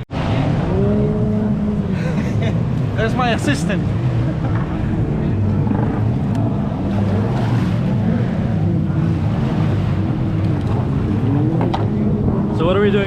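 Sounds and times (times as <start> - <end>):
jet ski engines revving: 0.0 - 13.0.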